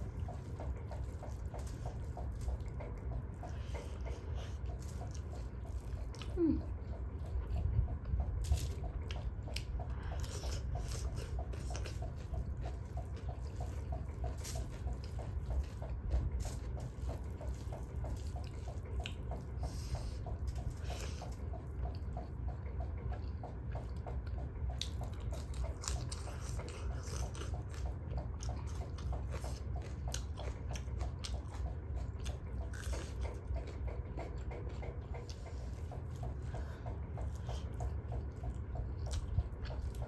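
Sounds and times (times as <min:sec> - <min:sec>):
steady low hum: 0:00.0 - 0:40.0
wet chewing: 0:00.0 - 0:40.0.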